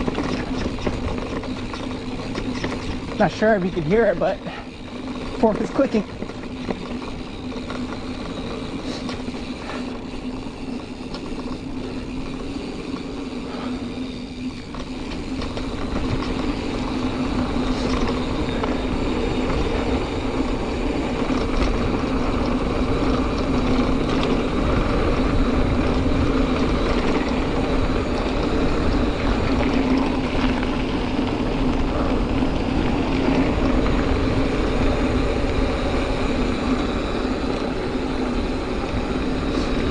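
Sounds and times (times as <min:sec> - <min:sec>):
drivetrain rattle: 0:00.0 - 0:35.2
bike tyres on dirt trail: 0:00.0 - 0:39.9.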